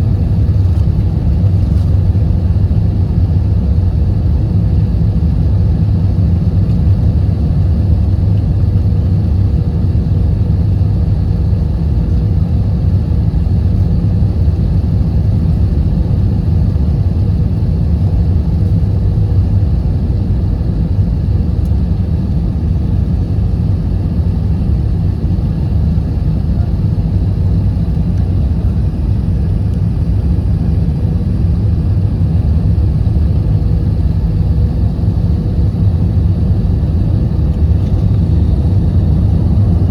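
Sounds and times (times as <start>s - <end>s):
jet engine and airflow drone: 0.0s - 39.9s.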